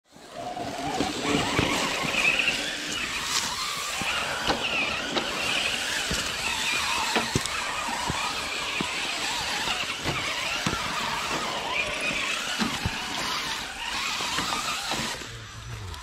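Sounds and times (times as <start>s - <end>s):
rc car electric motors whining: 0.1s - 16.0s.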